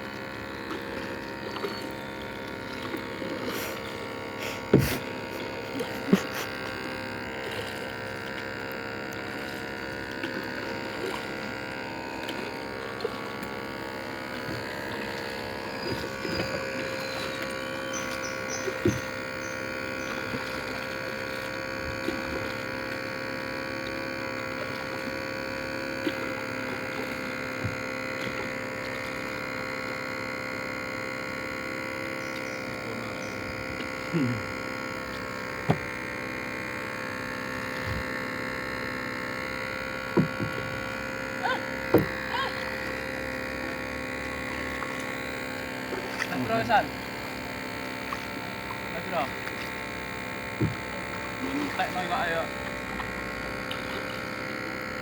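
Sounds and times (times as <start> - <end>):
mechanical motor drone: 0.0 - 55.0.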